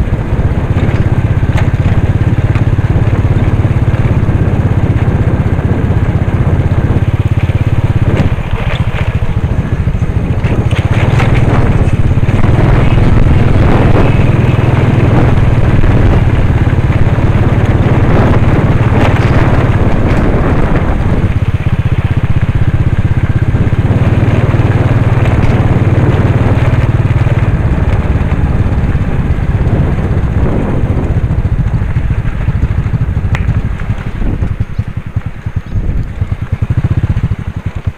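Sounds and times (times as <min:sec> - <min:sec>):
motorcycle engine running: 0:00.0 - 0:37.9
tyres crunching on dirt: 0:00.0 - 0:37.9.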